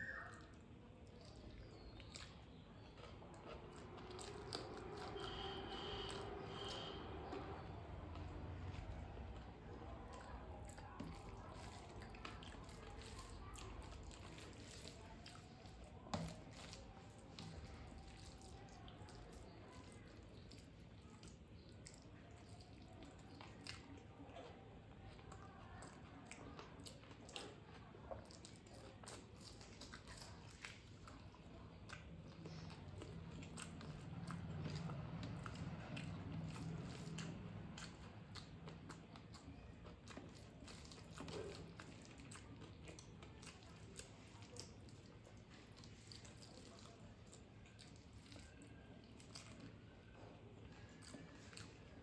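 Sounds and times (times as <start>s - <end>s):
person chewing: 0.1s - 52.0s.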